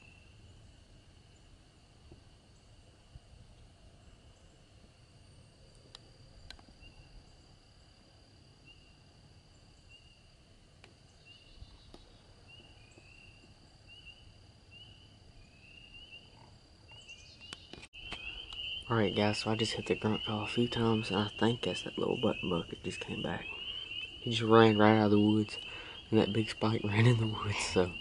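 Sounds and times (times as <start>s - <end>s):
steady high whine: 0.0s - 28.0s.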